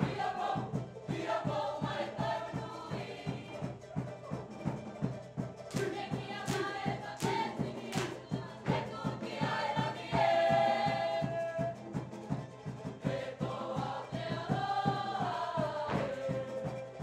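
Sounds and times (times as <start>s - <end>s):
group of voices singing: 0.0s - 3.8s, 5.7s - 11.9s, 12.9s - 17.0s
drums beating quickly: 0.0s - 17.0s.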